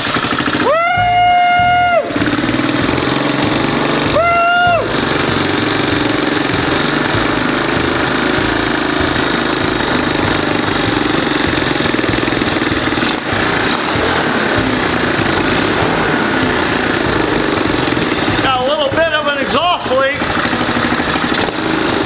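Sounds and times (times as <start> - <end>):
engine knock: 0.0 - 22.0
quad bike engine running: 0.0 - 22.0.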